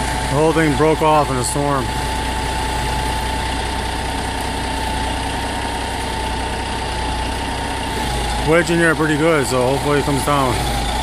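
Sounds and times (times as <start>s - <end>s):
diesel engine running: 0.0s - 11.0s
steady high whine: 0.0s - 11.0s.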